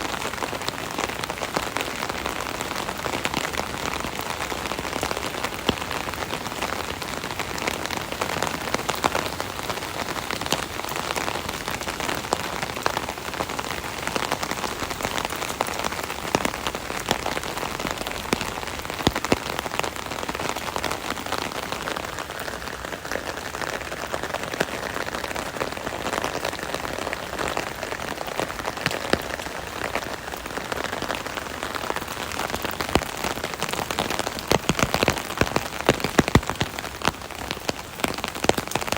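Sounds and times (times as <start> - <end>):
rain drumming on umbrella: 0.0 - 38.9.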